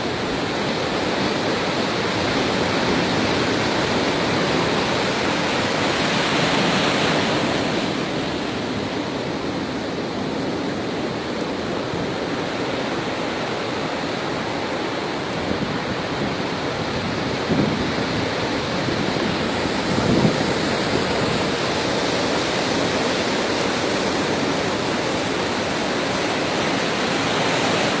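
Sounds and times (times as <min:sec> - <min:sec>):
steady rushing noise: 0:00.0 - 0:28.0.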